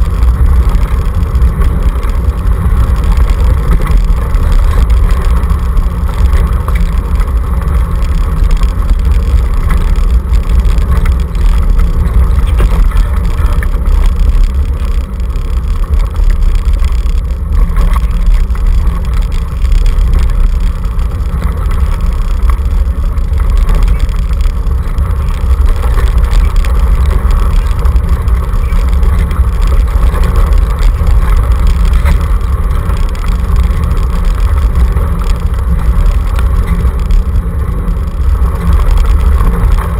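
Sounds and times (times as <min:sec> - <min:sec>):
scooter rumbling over gravel: 0:00.0 - 0:39.9.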